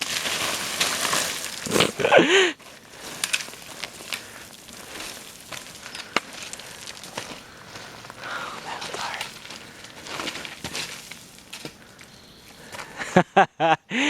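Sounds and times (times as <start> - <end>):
footsteps on loose rock: 0.0 - 13.0.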